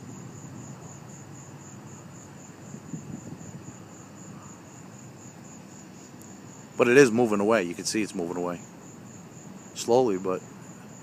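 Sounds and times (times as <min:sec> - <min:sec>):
distant low rumble: 0:00.0 - 0:10.9
night insects chirping: 0:00.0 - 0:11.0.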